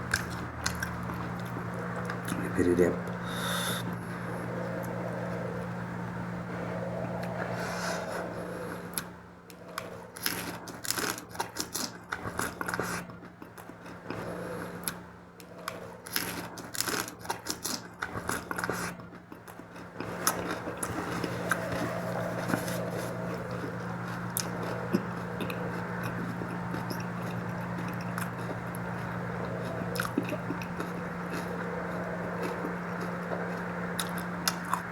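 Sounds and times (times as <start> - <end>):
constant low hum: 0.0 - 34.9
soft eating sounds: 0.0 - 34.9.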